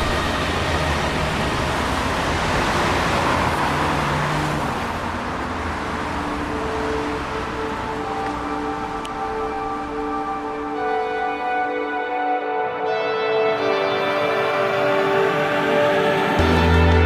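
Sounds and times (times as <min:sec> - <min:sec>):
car passing: 0:00.0 - 0:17.0
car traffic noise: 0:00.0 - 0:17.0.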